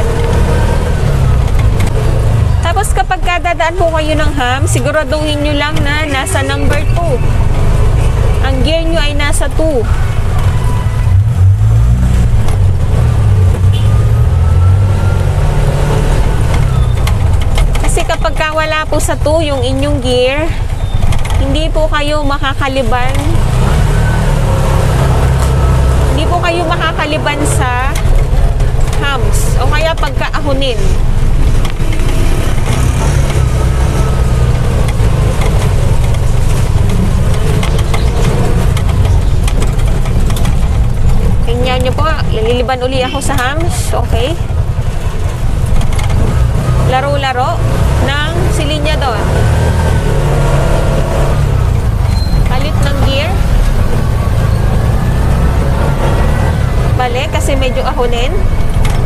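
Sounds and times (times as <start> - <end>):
auto-rickshaw engine running: 0.0 - 59.0.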